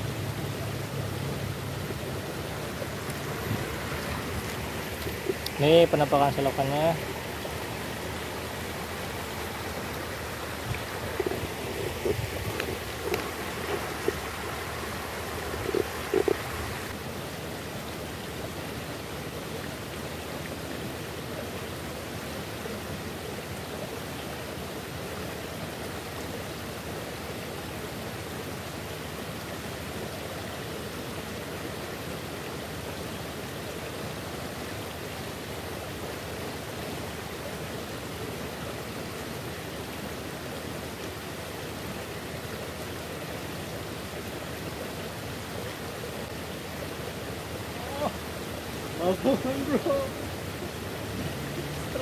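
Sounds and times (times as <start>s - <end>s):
stream running over rocks: 0.0s - 52.0s.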